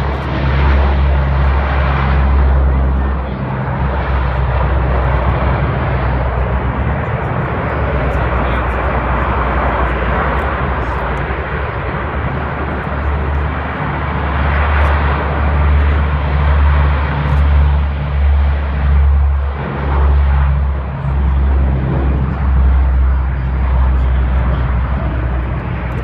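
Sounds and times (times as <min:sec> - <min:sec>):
turboprop aircraft drone: 0:00.0 - 0:26.0.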